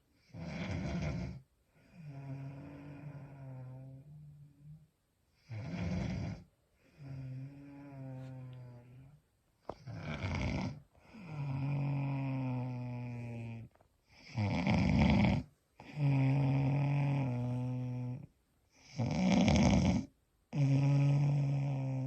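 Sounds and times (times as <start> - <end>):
woman snoring: 0.2 - 4.8, 5.4 - 22.0.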